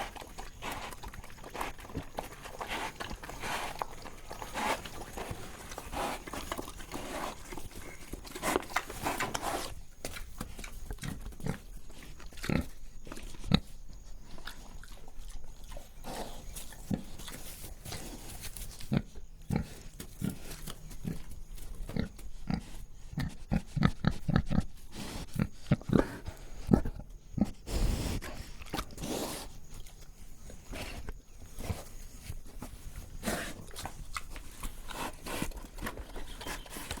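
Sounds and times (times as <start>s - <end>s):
pig breathing: 0.0s - 18.6s, 22.0s - 37.0s.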